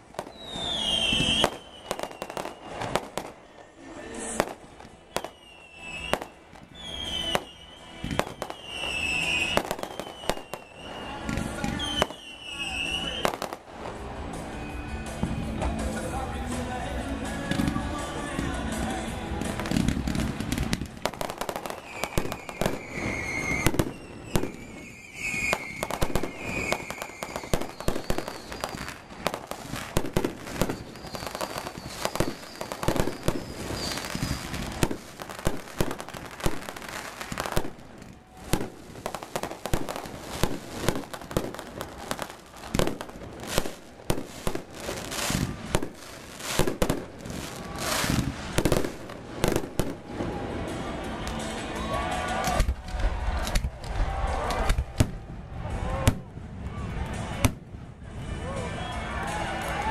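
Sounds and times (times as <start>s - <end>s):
crackling firework stars: 0.0s - 59.9s
firework bursts and bangs: 0.0s - 59.9s.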